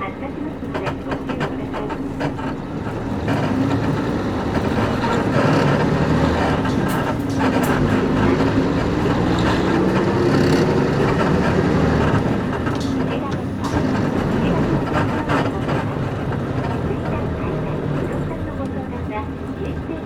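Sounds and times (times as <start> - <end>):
bus diesel engine running: 0.0 - 20.0
road noise: 0.0 - 20.0
bus body clicks and creaks: 0.4 - 20.0.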